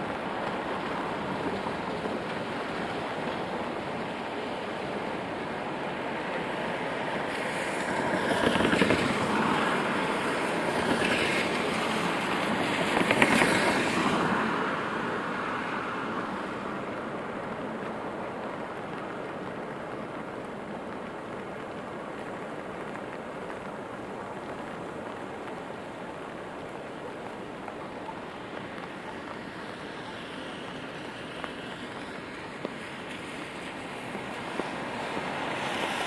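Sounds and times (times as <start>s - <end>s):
steady rainfall: 0.0s - 36.0s
tyre hiss from passing vehicles: 0.0s - 36.0s.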